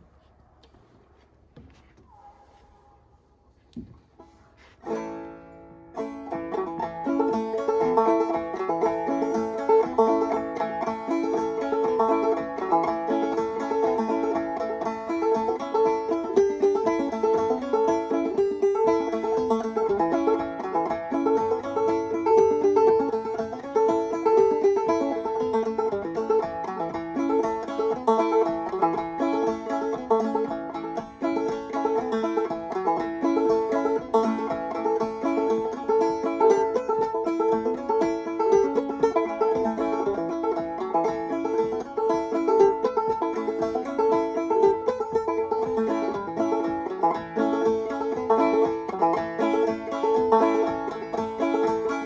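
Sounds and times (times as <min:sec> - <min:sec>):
clawhammer banjo tune: 0:03.8 - 0:52.0.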